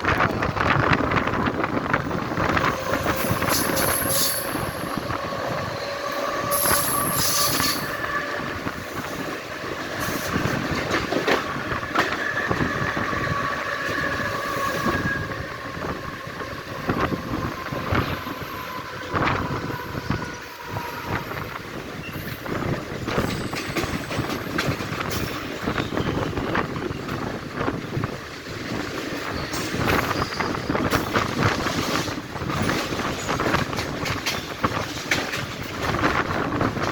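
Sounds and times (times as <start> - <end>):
train rattling on rails: 0.0 - 36.9.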